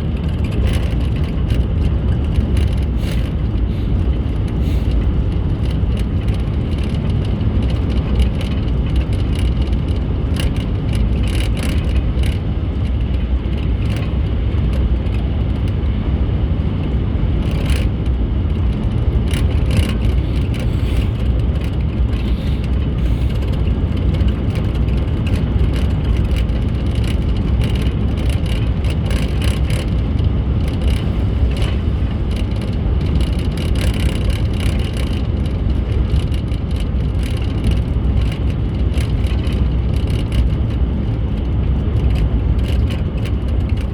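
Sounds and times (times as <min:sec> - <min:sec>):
small rattles: 0:00.0 - 0:15.9, 0:16.7 - 0:43.9
car road rumble: 0:00.0 - 0:43.9.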